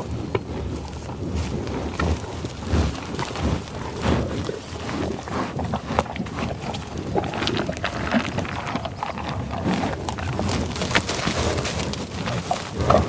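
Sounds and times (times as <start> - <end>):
bison grunting and sniffing: 0.0 - 13.0
tall grass rustling: 0.8 - 13.0.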